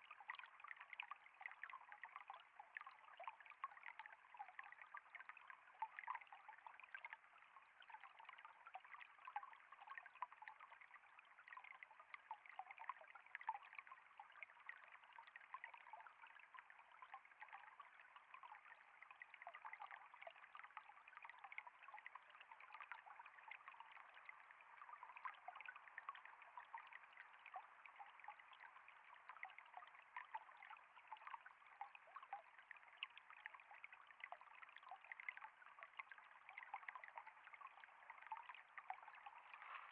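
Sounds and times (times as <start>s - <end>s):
water splashes and drips: 0.0s - 39.9s
water trickling: 0.0s - 39.9s.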